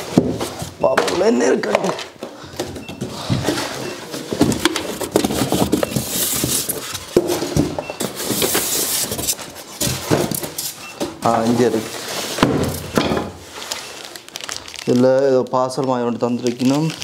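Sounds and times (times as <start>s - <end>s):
rummaging through packing: 0.0s - 17.0s.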